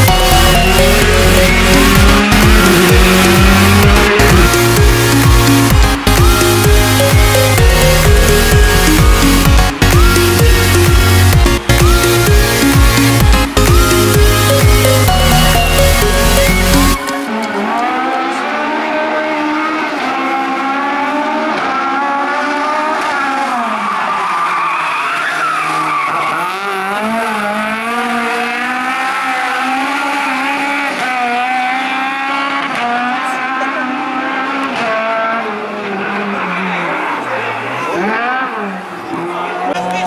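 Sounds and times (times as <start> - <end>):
rally car engine revving: 0.0 - 40.0.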